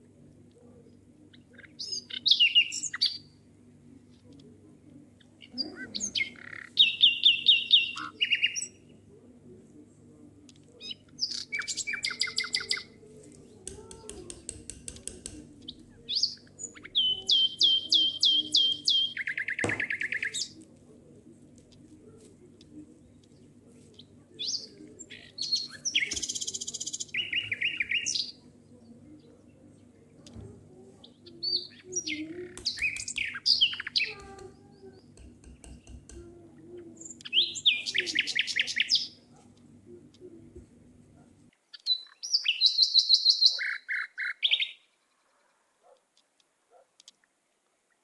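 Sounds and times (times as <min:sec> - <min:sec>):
songbird chirping and singing: 0:00.8 - 0:03.4, 0:05.1 - 0:09.0, 0:10.8 - 0:14.4, 0:15.0 - 0:20.8, 0:21.7 - 0:40.3, 0:41.6 - 0:46.0.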